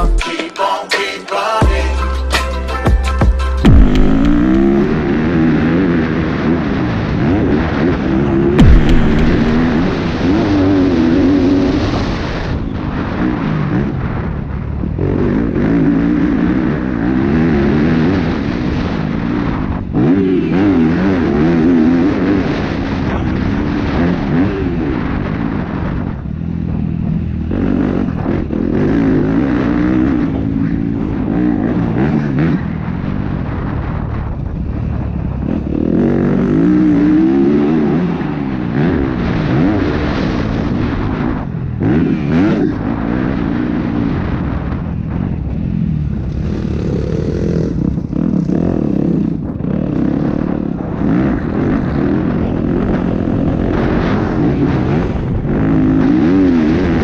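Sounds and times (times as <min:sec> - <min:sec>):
motocross engine revving: 0:03.6 - 0:34.4, 0:35.0 - 0:57.0
wind rush on microphone: 0:03.7 - 0:57.0.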